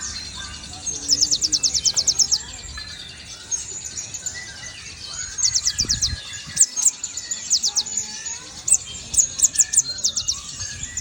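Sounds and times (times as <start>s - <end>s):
soft bird chirps: 0.0s - 11.0s.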